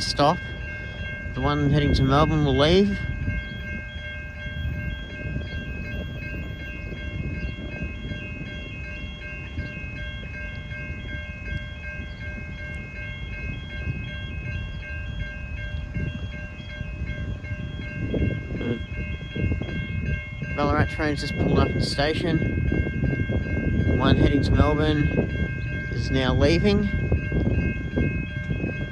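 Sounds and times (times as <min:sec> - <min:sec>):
distant train rumbling: 0:00.0 - 0:28.9
level-crossing bell ringing: 0:00.0 - 0:28.9.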